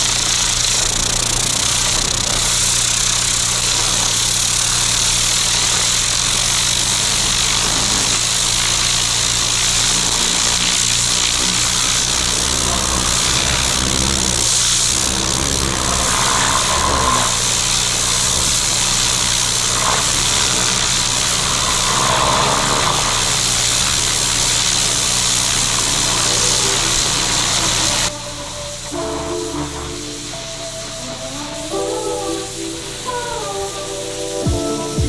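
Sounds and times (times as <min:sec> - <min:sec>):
high-pressure water jet hissing: 0:00.0 - 0:35.0
pressure washer engine running: 0:00.0 - 0:35.0.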